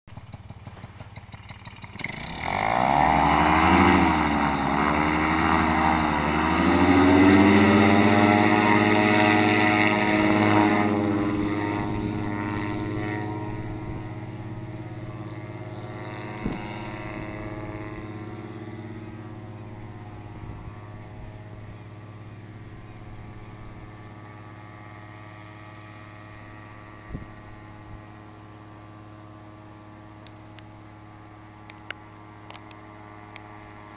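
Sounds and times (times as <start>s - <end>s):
paramotor engine and propeller: 0.1s - 33.9s.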